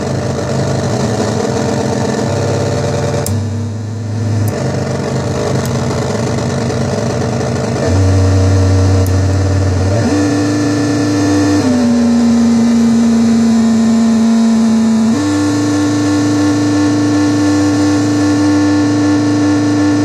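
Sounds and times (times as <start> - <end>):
synth drone: 0.0 - 20.0.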